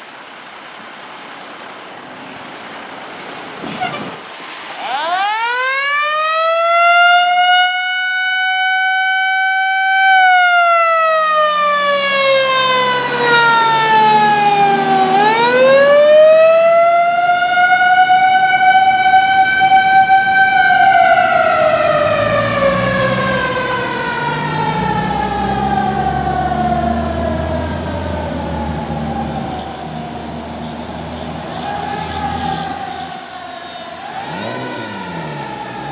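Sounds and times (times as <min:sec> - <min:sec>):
fire engine siren wailing: 0:04.7 - 0:35.9.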